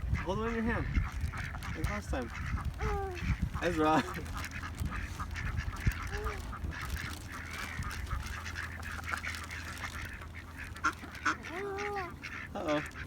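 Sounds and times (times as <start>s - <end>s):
ducks calling: 0.0s - 13.0s.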